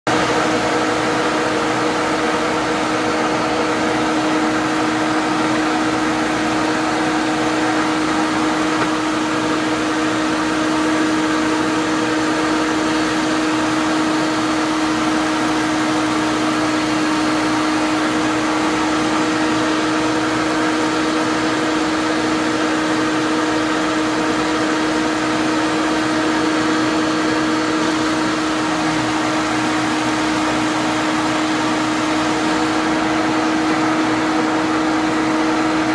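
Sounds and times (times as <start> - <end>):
drill press motor hum: 0.1 - 35.9.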